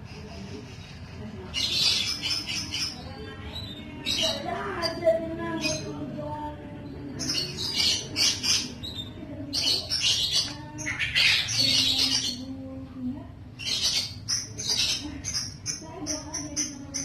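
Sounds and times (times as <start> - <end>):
small birds chirping and squawking: 0.0 - 17.0.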